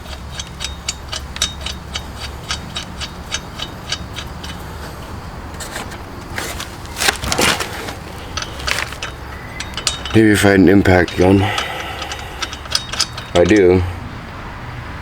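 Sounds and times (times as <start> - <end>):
hand ratchet clicking: 0.0 - 14.0
metal clanks: 0.0 - 14.0
low steady hum: 0.0 - 14.2.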